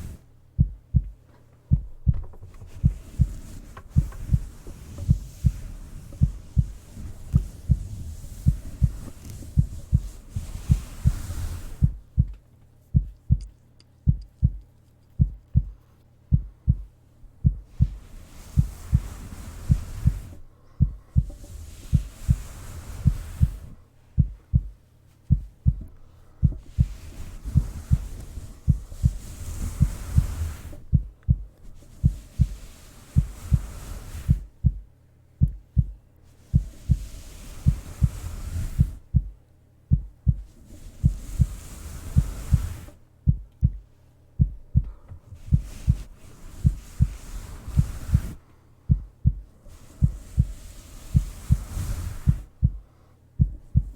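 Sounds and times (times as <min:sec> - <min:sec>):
heartbeat thumps: 0:00.0 - 0:32.6, 0:33.2 - 0:53.9
soft hiss: 0:00.0 - 0:53.9.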